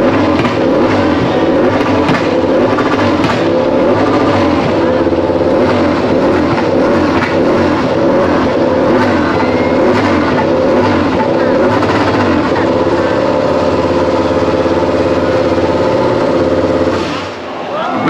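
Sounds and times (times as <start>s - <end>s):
racing motorcycle engine revving: 0.0s - 17.7s
crowd voices: 0.0s - 18.0s.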